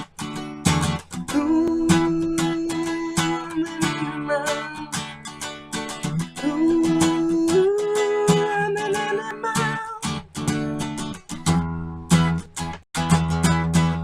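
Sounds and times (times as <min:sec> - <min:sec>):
reggae acoustic guitar music: 0:00.0 - 0:14.0.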